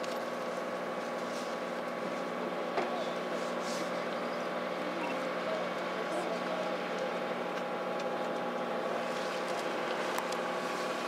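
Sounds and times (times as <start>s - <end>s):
steady mechanical drone: 0.0s - 11.0s.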